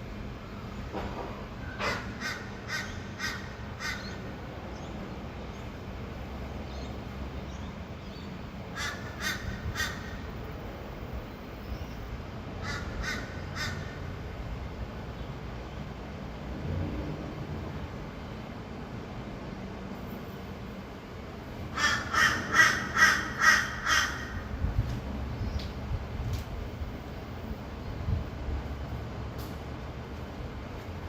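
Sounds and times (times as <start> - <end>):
distant traffic hum: 0.0 - 31.0.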